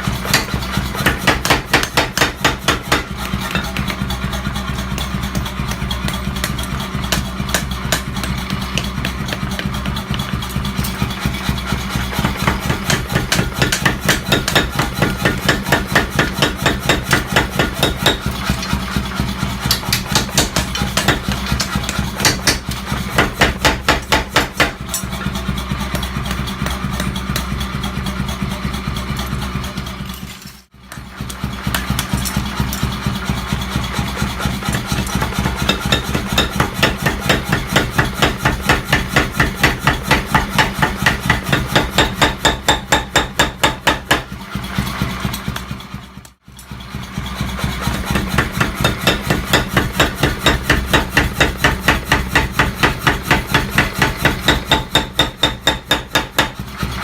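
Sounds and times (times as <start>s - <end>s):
motor hum: 0.0s - 57.0s.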